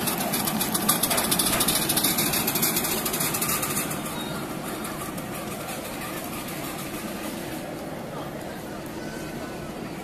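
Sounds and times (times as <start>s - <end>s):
miniature railway train running: 0.0s - 10.0s.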